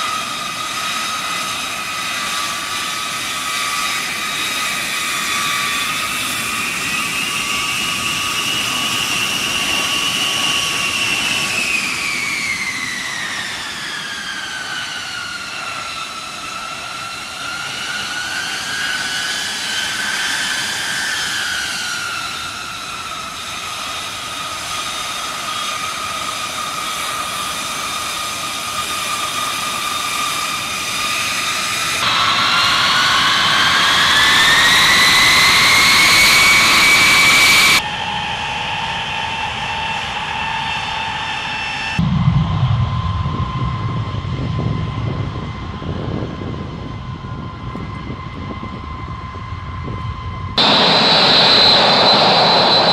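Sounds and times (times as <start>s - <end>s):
jet engines with turbine whine: 0.0s - 52.9s.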